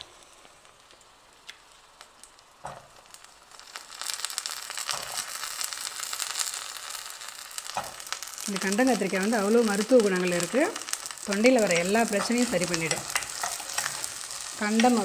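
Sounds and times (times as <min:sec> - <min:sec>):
loud crackling sizzle: 0:00.0 - 0:15.0
oil frying in a pot: 0:00.0 - 0:15.0.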